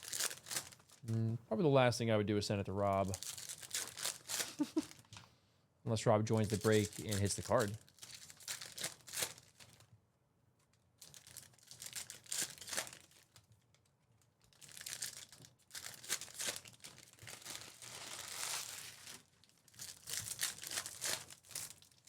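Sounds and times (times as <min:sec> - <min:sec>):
foil wrappers crinkling and tearing: 0:00.0 - 0:01.0, 0:02.9 - 0:05.2, 0:06.3 - 0:09.9, 0:11.0 - 0:22.0.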